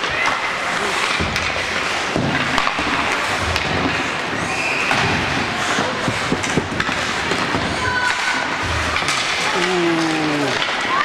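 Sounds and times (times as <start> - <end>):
hockey sticks and puck clacking: 0.0 - 11.0
skates scraping ice: 0.0 - 11.0.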